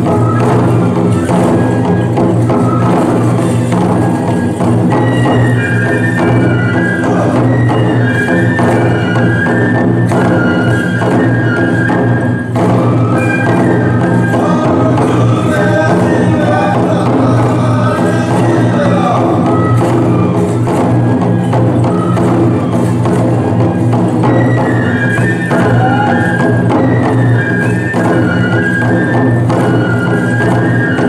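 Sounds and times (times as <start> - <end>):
high flute melody: 0.0 - 31.0
taiko drums beating: 0.0 - 31.0.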